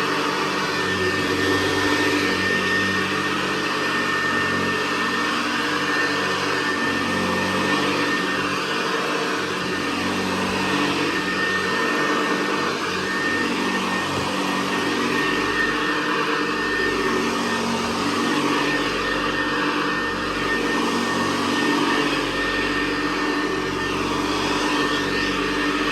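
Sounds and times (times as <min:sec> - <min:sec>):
high whine over motor hum: 0:00.0 - 0:25.9
upright vacuum cleaner running: 0:00.0 - 0:25.9.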